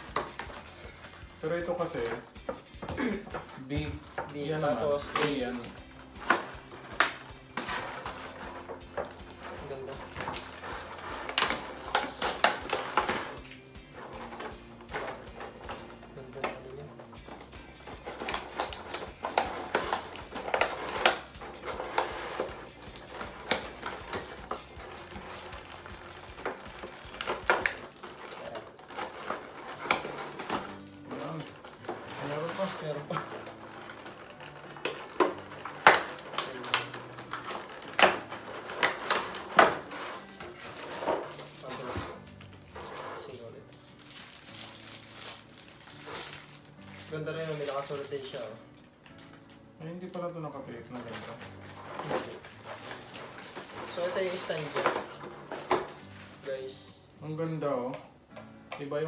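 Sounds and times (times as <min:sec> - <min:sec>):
plastic packaging crackling: 0:00.0 - 0:58.8
background music: 0:00.0 - 0:59.0.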